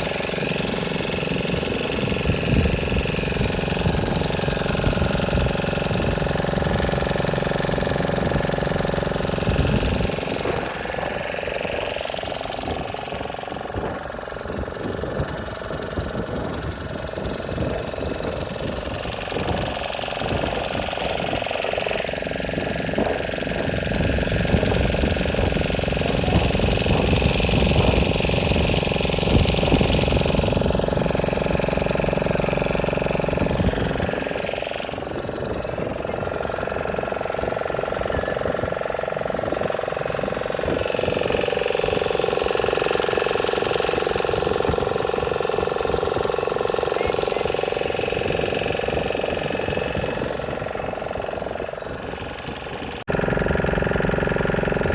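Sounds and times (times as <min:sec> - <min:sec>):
motorboat engine running: 0:00.0 - 0:54.9.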